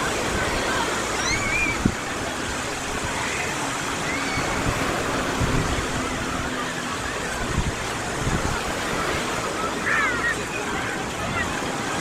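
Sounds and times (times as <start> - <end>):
small waves washing onto beach: 0.0 - 12.0
wind gusts on microphone: 0.0 - 12.0.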